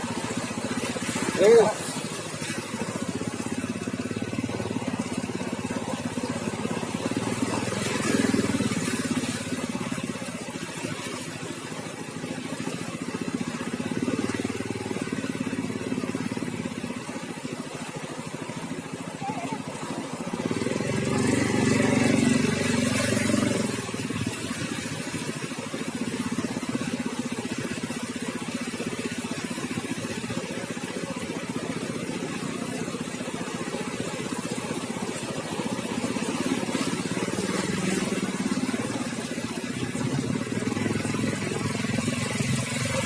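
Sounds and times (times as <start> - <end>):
engine running at low revs: 0.0 - 43.0.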